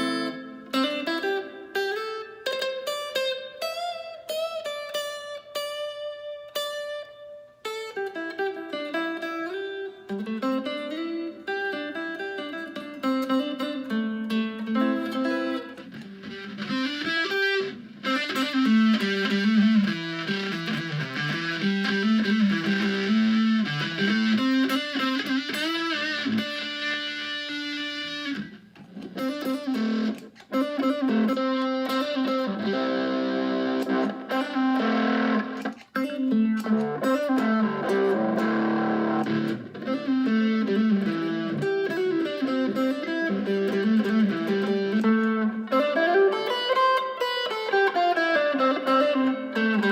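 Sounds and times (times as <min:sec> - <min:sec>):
electric guitar melody: 0:00.0 - 0:49.9.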